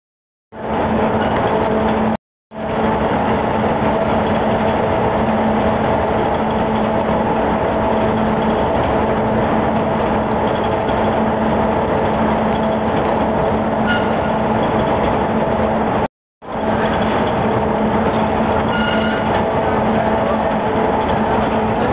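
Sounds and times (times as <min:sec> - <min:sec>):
noisy rush: 0:00.5 - 0:21.9
machinery hum: 0:00.6 - 0:21.9.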